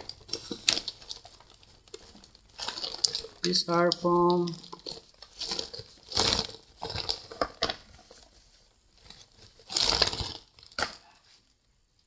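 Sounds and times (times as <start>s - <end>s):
plastic bags crinkling: 0.0s - 11.5s.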